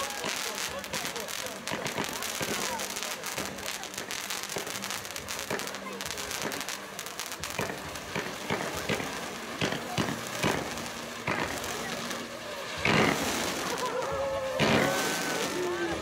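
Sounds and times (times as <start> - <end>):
fireworks crackling: 0.0 - 16.0
fireworks sharp bangs: 0.0 - 16.0.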